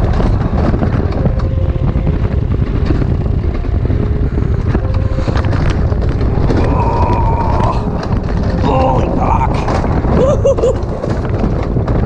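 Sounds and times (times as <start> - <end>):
scattered clicks: 0.0 - 12.0
sled rumbling on steel track: 0.0 - 12.0
wind buffeting microphone: 0.0 - 12.0.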